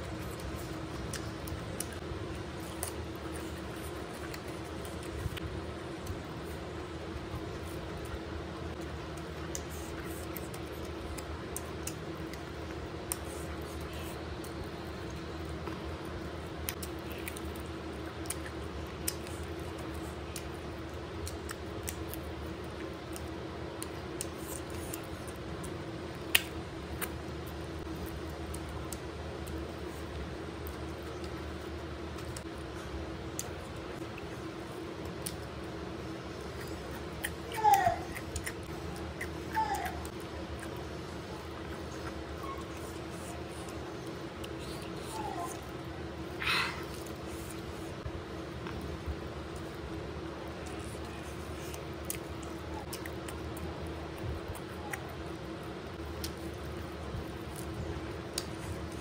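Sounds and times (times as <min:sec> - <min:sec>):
steady low hum: 0:00.0 - 0:59.0
wet chewing clicks and squishes: 0:00.0 - 0:59.0.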